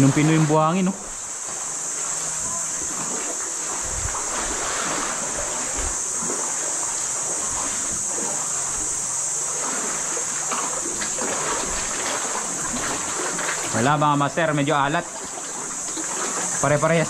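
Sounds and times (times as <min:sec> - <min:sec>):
high-pitched insect chorus: 0:00.0 - 0:17.0
small waves on sandy shore: 0:00.0 - 0:17.0.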